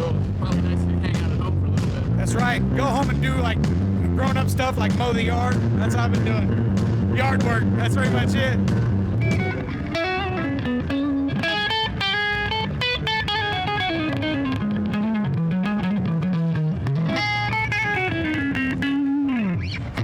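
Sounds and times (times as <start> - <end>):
electric guitar lead line: 0.0 - 20.0.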